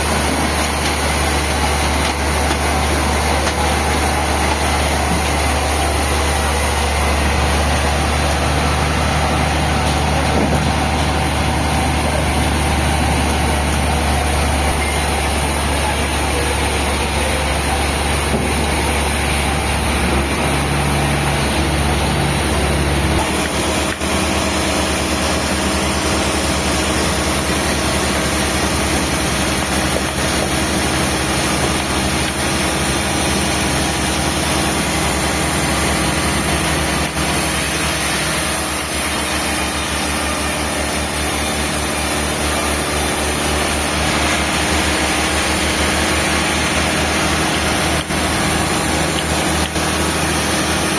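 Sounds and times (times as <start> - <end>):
sawmill machinery drone: 0.0 - 50.9.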